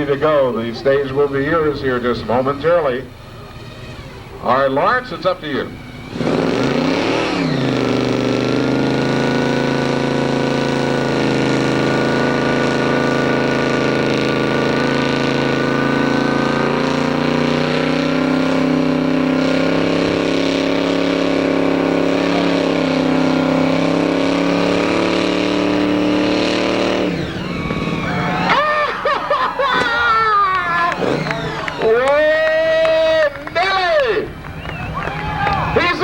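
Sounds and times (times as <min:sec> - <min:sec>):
engine revving during burnout: 0:00.0 - 0:36.0.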